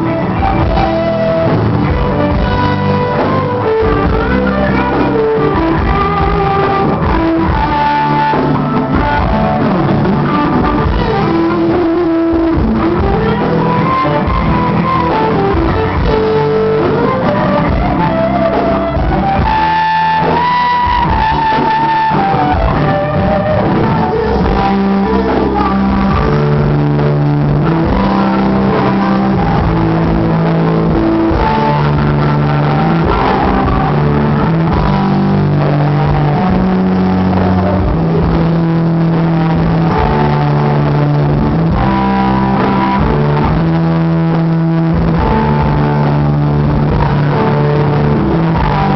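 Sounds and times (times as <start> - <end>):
person singing: 0.0 - 48.9
rock band playing: 0.0 - 48.9.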